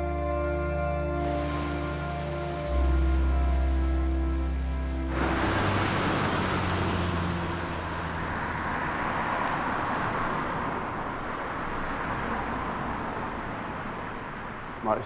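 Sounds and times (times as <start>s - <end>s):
traffic road noise: 0.0s - 15.0s
vehicle passing close by: 1.2s - 14.8s.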